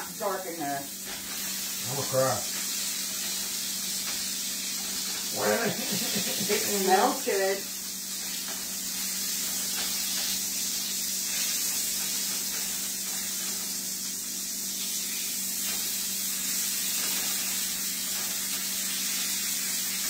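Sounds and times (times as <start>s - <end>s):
steam hissing from waffle maker: 0.0s - 20.0s.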